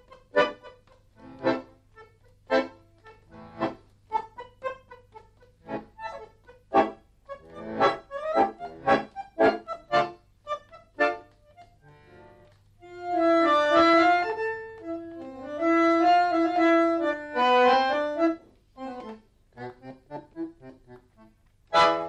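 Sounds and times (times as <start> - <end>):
bandoneon playing tango: 0.0 - 22.0.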